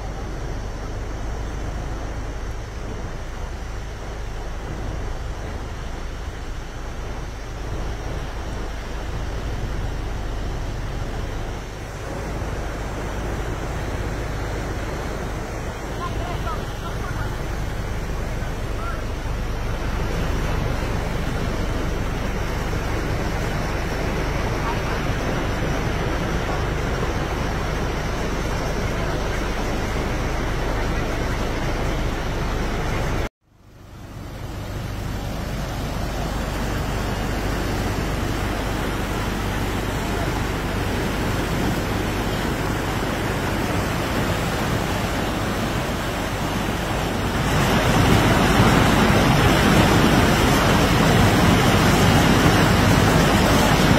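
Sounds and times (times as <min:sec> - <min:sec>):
floodwater rushing: 0:00.0 - 0:53.9.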